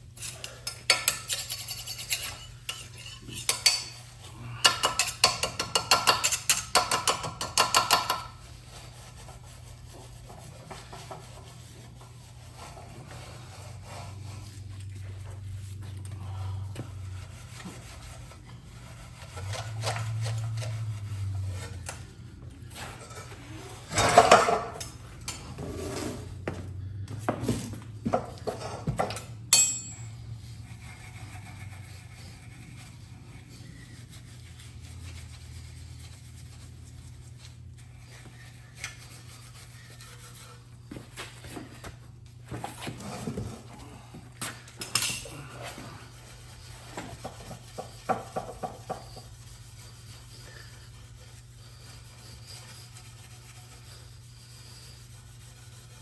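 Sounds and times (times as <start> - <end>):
low steady hum: 8.0 - 56.0.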